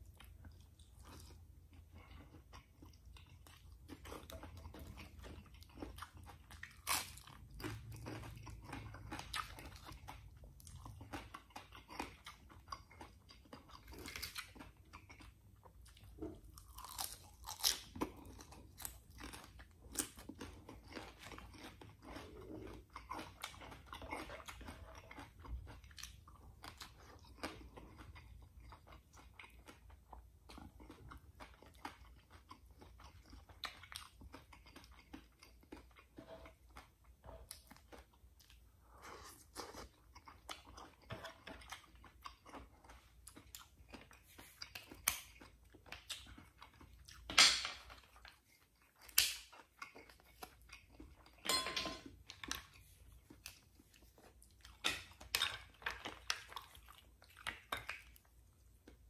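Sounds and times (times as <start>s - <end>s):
man chewing and crunching food: 0.0s - 59.0s.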